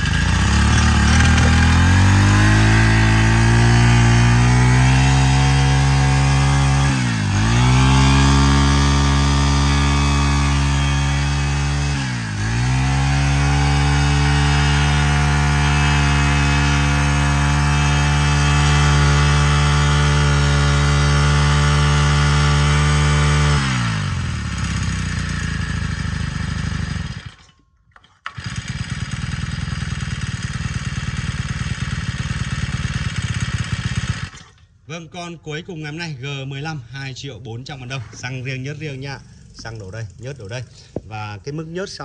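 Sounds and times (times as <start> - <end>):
brush cutter engine running: 0.0 - 34.6.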